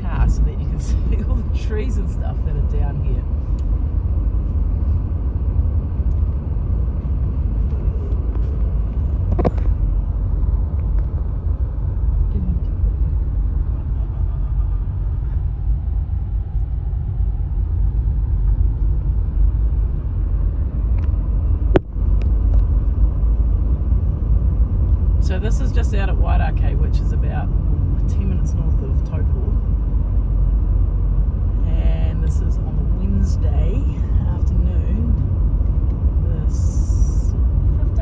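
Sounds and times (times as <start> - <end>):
car interior rumble: 0.0 - 38.0.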